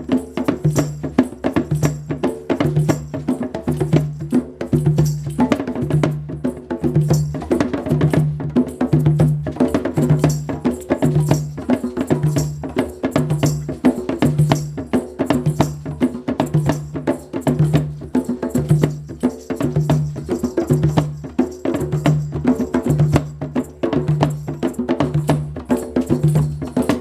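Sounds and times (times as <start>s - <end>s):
hand percussion: 0.0s - 27.0s.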